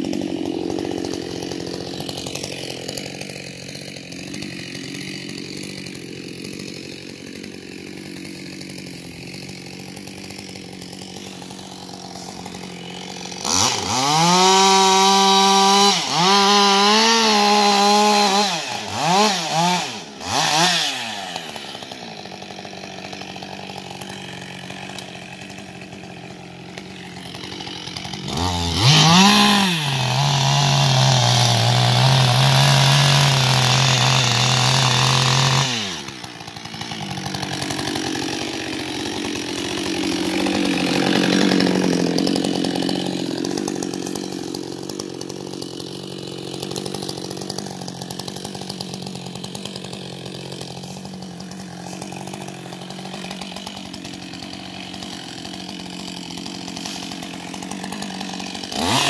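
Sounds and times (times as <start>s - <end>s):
chainsaw cutting a log: 0.0s - 59.0s
chainsaw idling: 0.0s - 59.0s.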